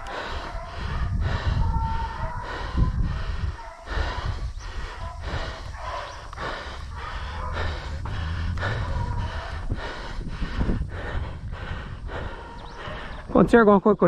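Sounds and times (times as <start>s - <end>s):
person breathing hard: 0.0s - 13.3s.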